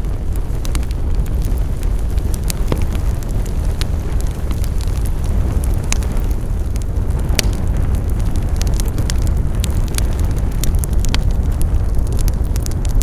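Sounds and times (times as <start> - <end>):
flames rumbling: 0.0 - 13.0
wood fire crackling: 0.0 - 13.0.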